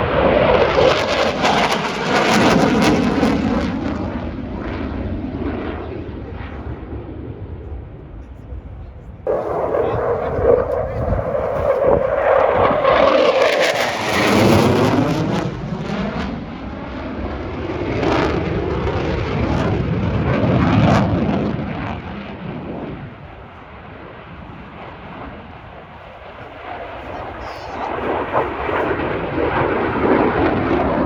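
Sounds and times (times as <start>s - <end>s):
military jet flying past: 0.0s - 8.2s, 9.3s - 31.0s.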